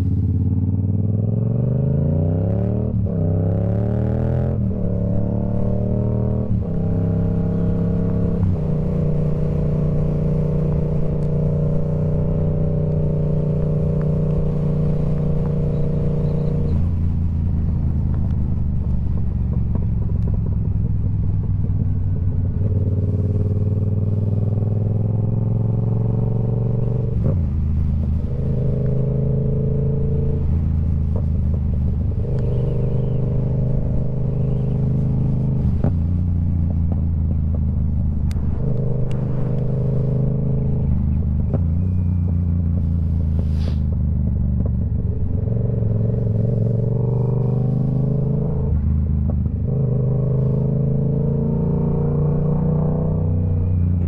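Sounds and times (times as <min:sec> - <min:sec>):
motorcycle engine running: 0:04.6 - 0:51.3.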